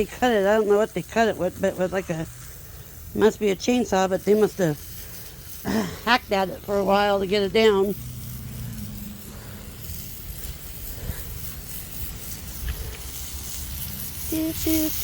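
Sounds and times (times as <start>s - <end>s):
faint hiss: 0.0s - 15.0s
low engine rumble: 0.0s - 15.0s.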